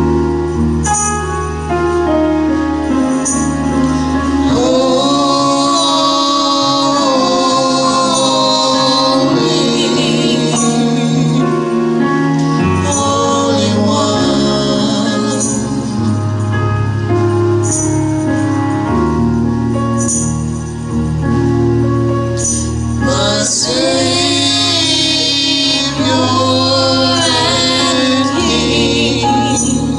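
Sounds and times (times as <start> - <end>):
bass line: 0.0 - 29.9
instrumental accompaniment: 0.0 - 29.9
gospel singing: 2.5 - 19.0, 22.4 - 29.9.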